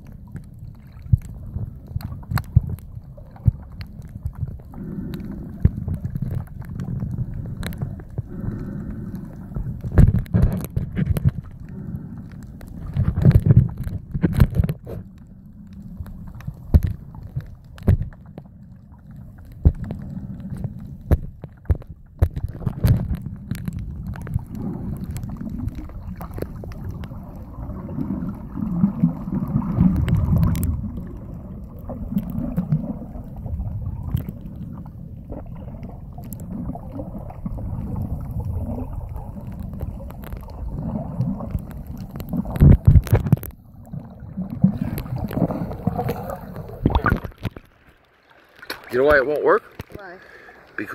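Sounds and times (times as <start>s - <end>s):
underwater rumbling and sloshing: 0.0s - 50.9s.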